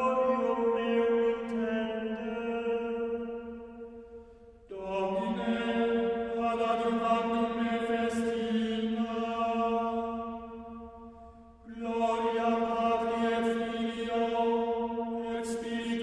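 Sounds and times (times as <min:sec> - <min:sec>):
chant-like sustained drone chords: 0:00.0 - 0:16.0.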